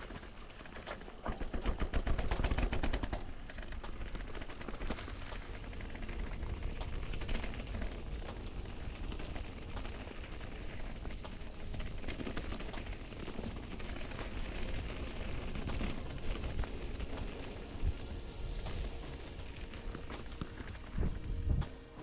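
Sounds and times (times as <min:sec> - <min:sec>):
mountain bike rattling on trail: 0:00.0 - 0:21.2
wind rumble on microphone: 0:00.0 - 0:22.0.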